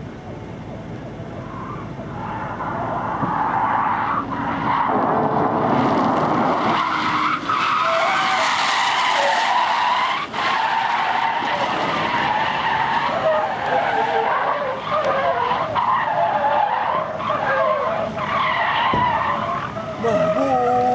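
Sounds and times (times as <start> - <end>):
car tyres squealing: 1.2 - 20.9.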